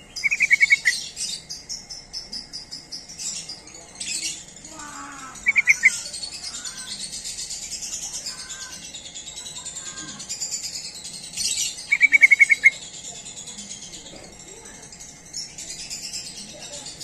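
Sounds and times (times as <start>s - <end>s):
constant high chirping: 0.0s - 17.0s.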